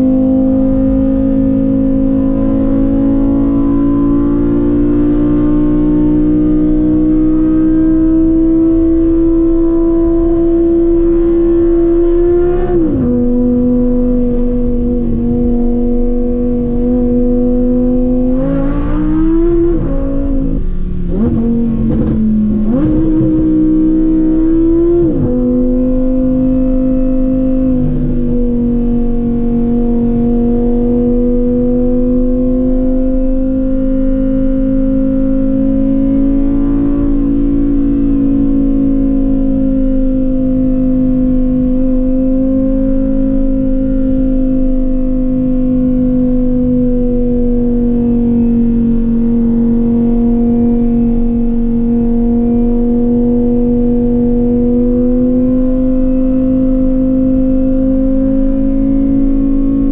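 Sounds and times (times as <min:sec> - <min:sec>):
car engine drone from inside cabin: 0:00.0 - 0:59.9.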